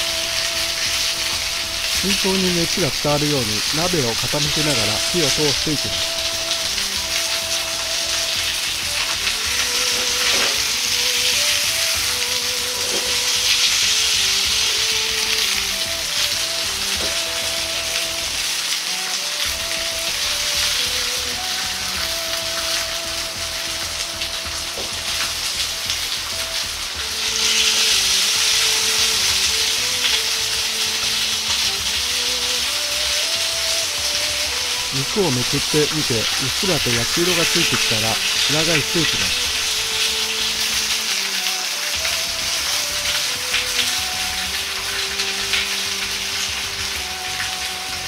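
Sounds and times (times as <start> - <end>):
background music with melody: 0.0 - 48.0
meat sizzling in oil: 0.0 - 48.0.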